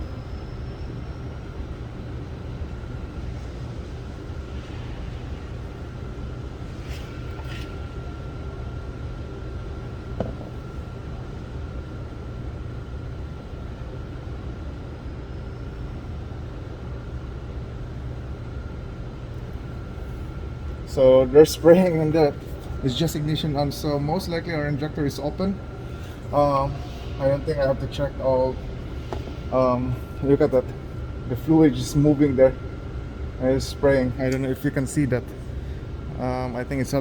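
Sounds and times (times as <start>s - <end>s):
faint high whine: 0.0s - 37.0s
low mechanical rumble: 0.0s - 37.0s.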